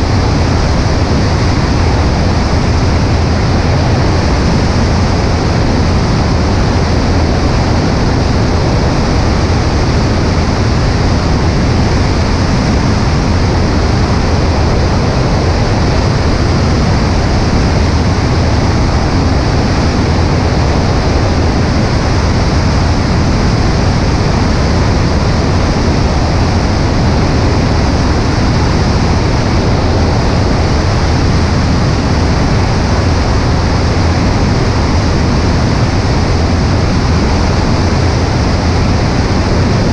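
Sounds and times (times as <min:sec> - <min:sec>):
aircraft engine droning: 0:00.0 - 0:39.9
wind rushing over microphone: 0:00.0 - 0:39.9.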